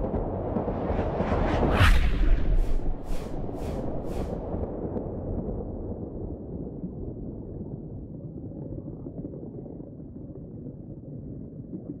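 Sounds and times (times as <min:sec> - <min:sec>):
deep underwater rumbling: 0:01.6 - 0:12.0.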